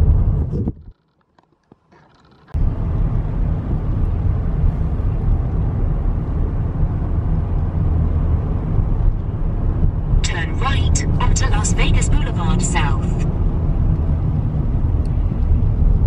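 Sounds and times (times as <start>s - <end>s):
car cabin road and engine rumble: 2.0s - 16.0s.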